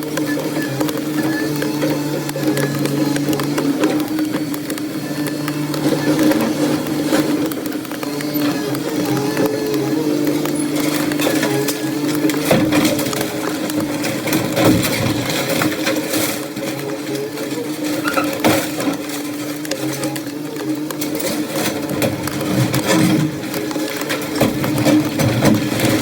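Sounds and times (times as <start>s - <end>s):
demolition debris knocks and crunches: 0.0s - 26.0s
heavy machine engine running: 0.0s - 26.0s.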